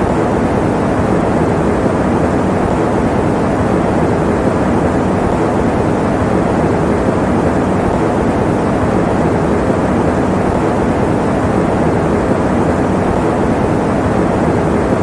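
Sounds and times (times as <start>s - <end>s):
electric fan whooshing: 0.0s - 15.0s.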